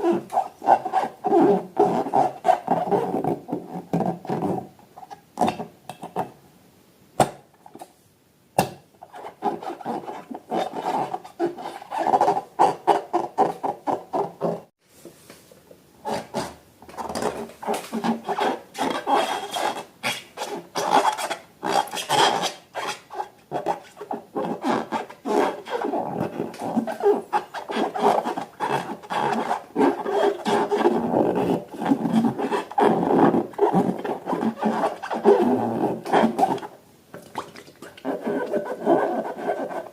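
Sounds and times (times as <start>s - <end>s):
rubbing noise: 0.0s - 4.7s, 9.0s - 36.7s, 38.0s - 39.9s.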